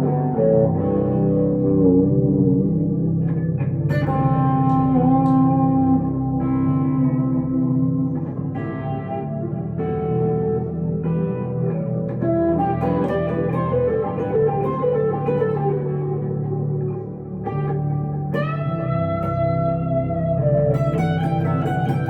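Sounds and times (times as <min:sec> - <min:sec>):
electric guitar lead melody: 0:00.0 - 0:22.0.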